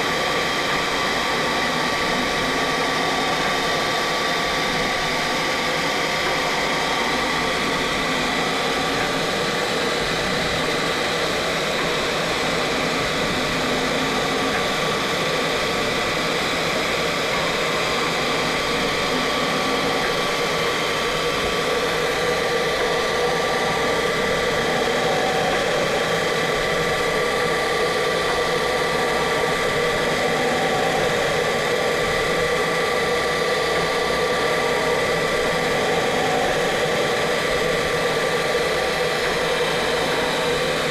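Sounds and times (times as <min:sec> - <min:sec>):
engraving machine whirring: 0:00.0 - 0:40.9.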